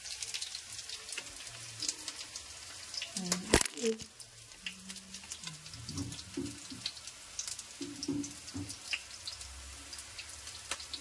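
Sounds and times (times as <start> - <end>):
oil crackling in pan: 0.0 - 11.0.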